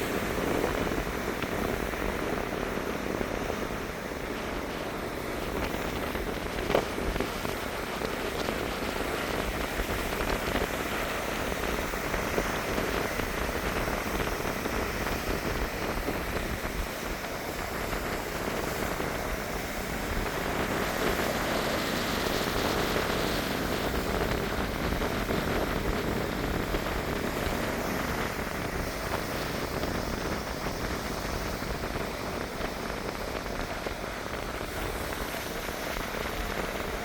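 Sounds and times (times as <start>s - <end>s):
sea waves washing onto beach: 0.0s - 37.0s.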